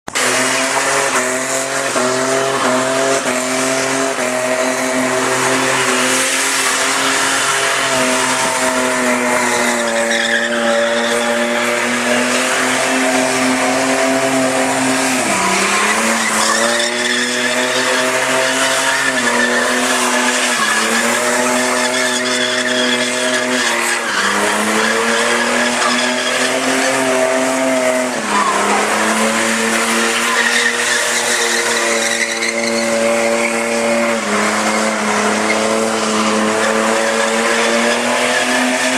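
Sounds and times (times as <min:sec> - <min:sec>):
car engine revving high: 0:00.0 - 0:38.9
tyres squealing: 0:00.3 - 0:38.9.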